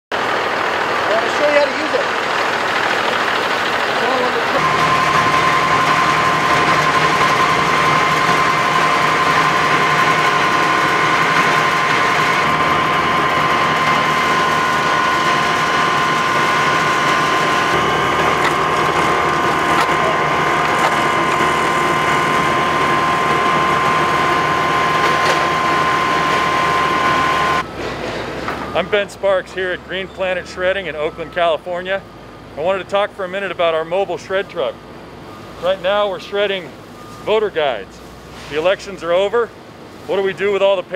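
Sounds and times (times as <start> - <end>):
shredding machinery clatter and whine: 0.1 - 40.9.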